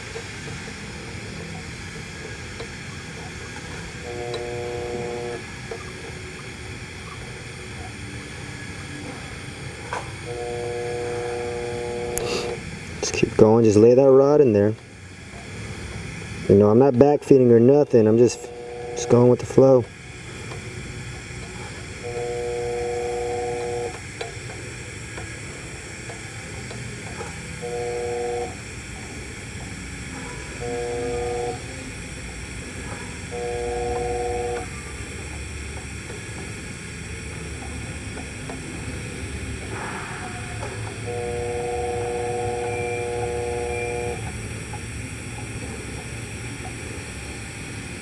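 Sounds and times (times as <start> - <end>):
electric drive humming: 0.0 - 48.0
faint welding arc hiss: 0.0 - 48.0.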